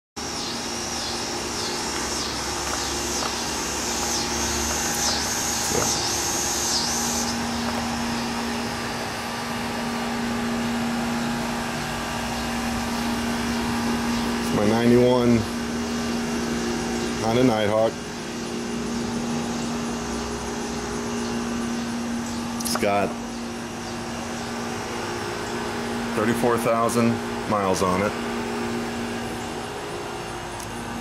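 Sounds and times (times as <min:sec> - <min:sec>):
pulsing high buzz: 0:00.2 - 0:31.0
steady mechanical hum: 0:00.2 - 0:31.0.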